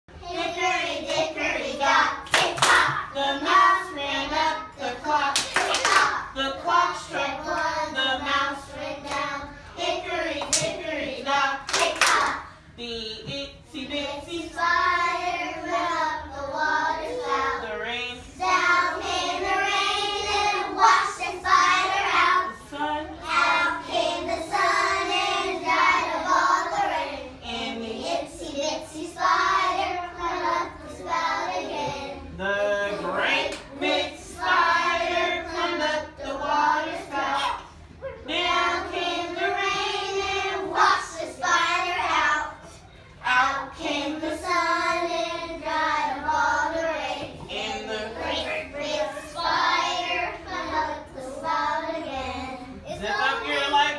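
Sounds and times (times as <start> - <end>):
children singing together: 0.1 - 12.6, 13.8 - 53.9.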